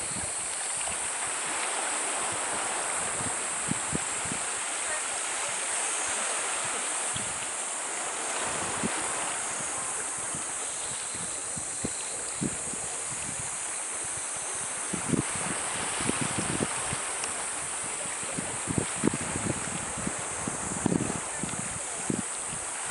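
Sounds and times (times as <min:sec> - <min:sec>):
wind thumps on microphone: 0:00.0 - 0:01.6, 0:02.2 - 0:05.0, 0:06.6 - 0:22.9
sea water washing on rocky shore: 0:00.0 - 0:22.9
wind hiss: 0:00.0 - 0:22.9.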